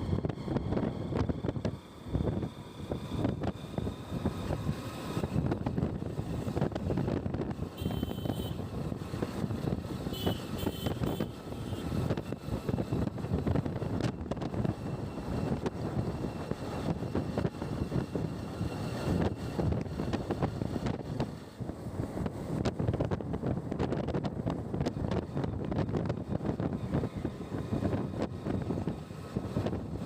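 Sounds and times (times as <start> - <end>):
vehicle engine rumble: 0.0 - 30.0
wind buffeting microphone: 0.0 - 30.0.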